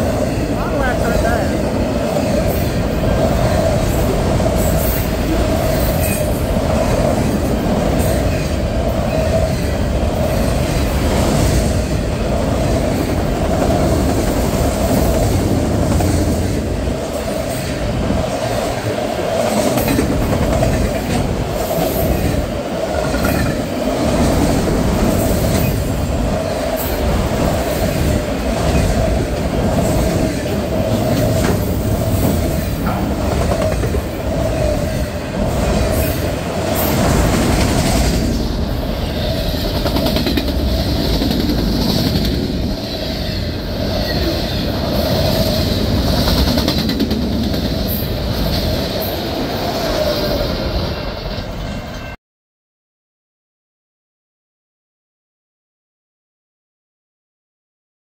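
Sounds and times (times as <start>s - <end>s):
train wheels rumbling: 0.0s - 52.0s
train clicks and clanks: 0.0s - 52.2s.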